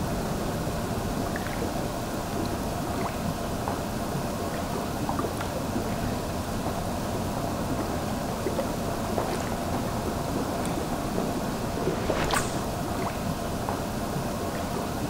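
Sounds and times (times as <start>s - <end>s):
pond water churned by aerator: 0.0s - 15.0s.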